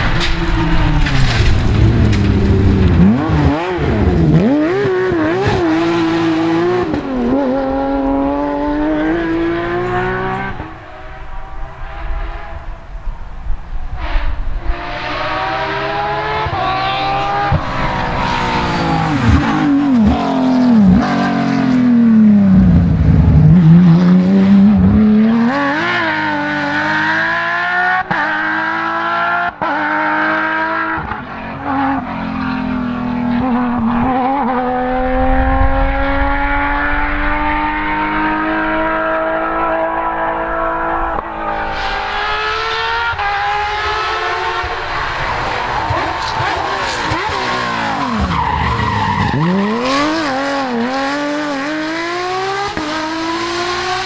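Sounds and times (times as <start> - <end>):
rally car engine revving hard: 0.0 - 12.7, 14.0 - 54.0.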